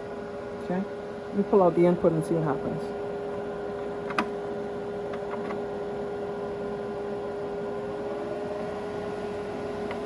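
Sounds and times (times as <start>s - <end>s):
cooling fan noise: 0.0s - 10.0s
induction cooktop humming whine: 0.0s - 10.0s.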